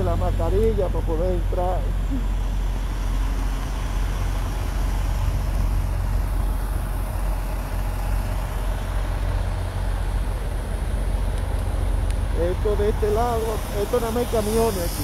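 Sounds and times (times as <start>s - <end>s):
diesel truck engines rumbling: 0.0s - 15.0s.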